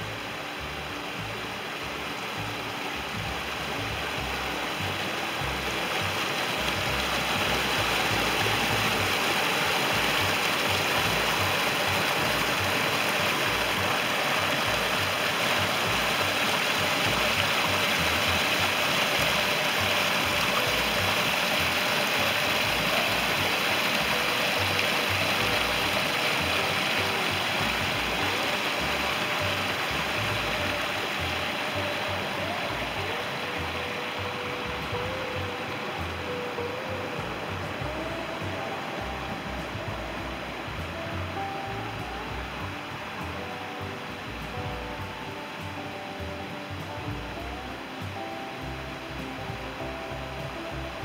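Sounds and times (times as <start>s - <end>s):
creek water rushing and splashing: 0.0s - 51.0s.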